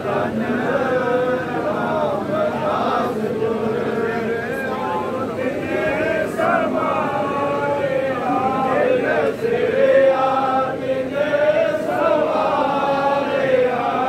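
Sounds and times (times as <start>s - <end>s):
men chanting together: 0.0s - 14.0s.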